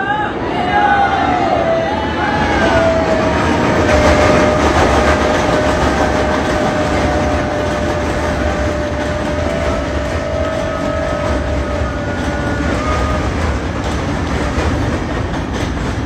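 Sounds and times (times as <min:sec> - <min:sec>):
steady high tone: 0:00.0 - 0:13.5
train passing rumble: 0:00.0 - 0:16.0.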